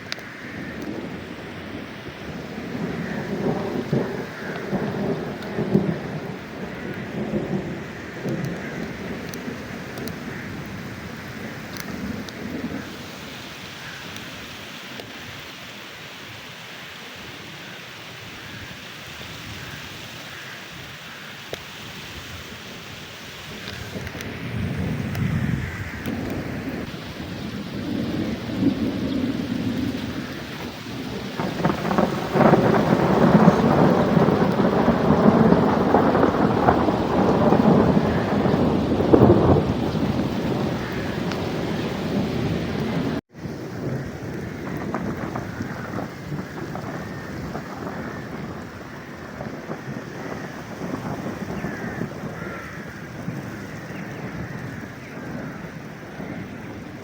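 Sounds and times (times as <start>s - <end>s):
heavy rain falling: 0.0s - 57.0s
rolling thunder: 0.4s - 13.1s, 23.5s - 57.0s.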